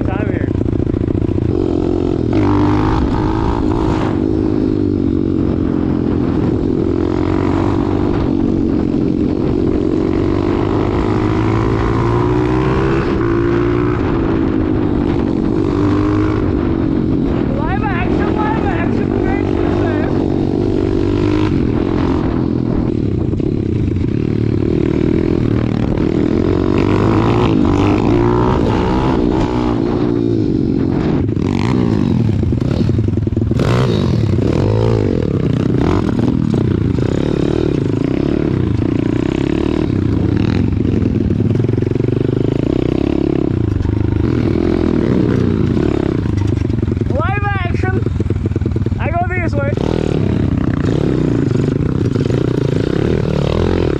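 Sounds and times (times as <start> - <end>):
pit bike engine revving: 0.0 - 53.9.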